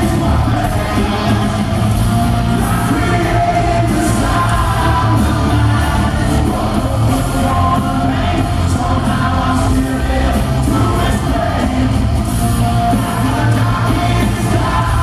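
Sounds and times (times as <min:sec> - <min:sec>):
electric guitar: 0:00.0 - 0:15.0
person singing: 0:00.0 - 0:15.0.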